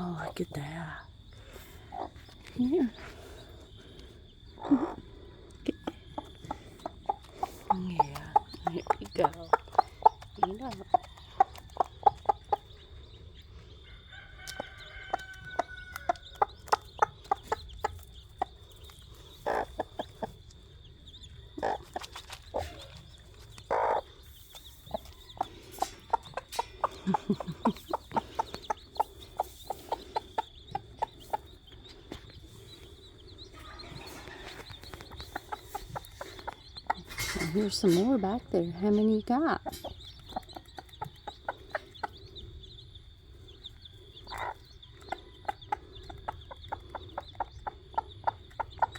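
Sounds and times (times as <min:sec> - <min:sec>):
hen clucking: 0:00.0 - 0:48.9.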